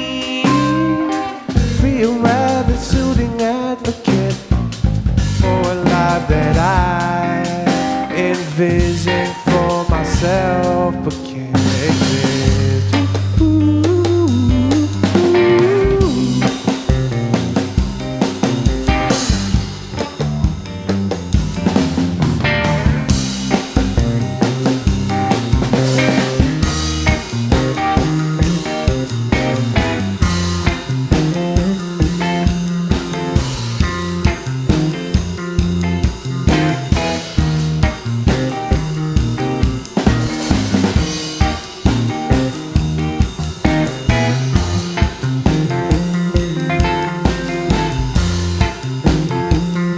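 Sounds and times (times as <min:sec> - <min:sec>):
bass guitar: 0:00.0 - 0:49.9
drum kit beating: 0:00.0 - 0:49.9
electric guitar: 0:00.0 - 0:49.9.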